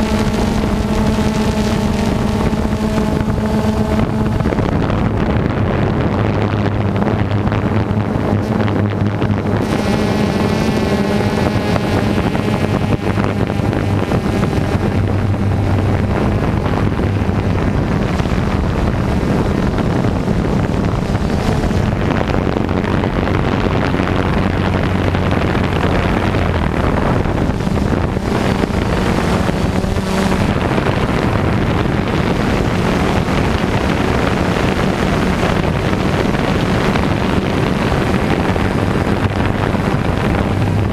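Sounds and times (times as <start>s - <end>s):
machinery engine humming: 0.0s - 40.9s
wind buffeting microphone: 0.0s - 40.9s.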